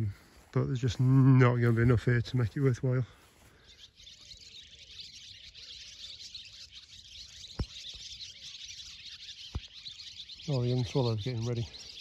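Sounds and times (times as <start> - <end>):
swallows twittering: 0.0 - 12.0.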